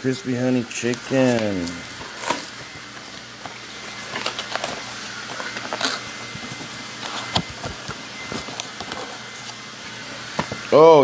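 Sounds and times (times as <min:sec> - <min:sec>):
cardboard carton tearing and rustling: 0:00.7 - 0:09.6.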